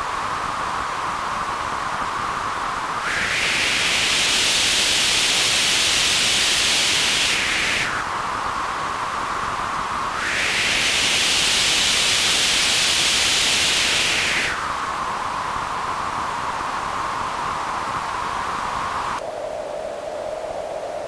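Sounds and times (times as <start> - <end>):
white noise through wah filter: 0.0 - 21.0.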